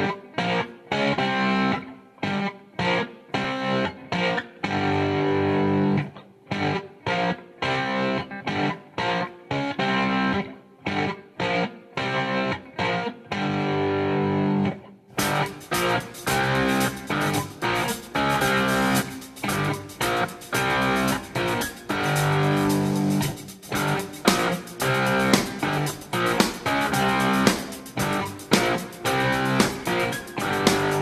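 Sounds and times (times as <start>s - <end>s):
distorted electric guitar riff: 0.0s - 31.0s.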